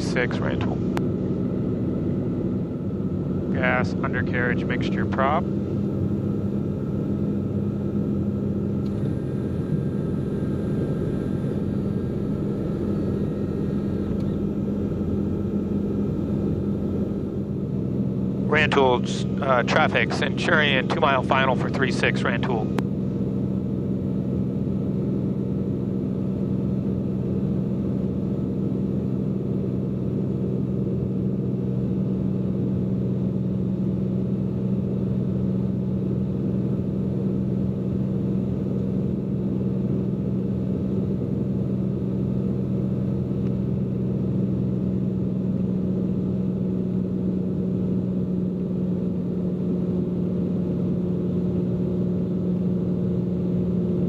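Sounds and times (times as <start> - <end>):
propeller airplane engine drone: 0.0 - 54.0.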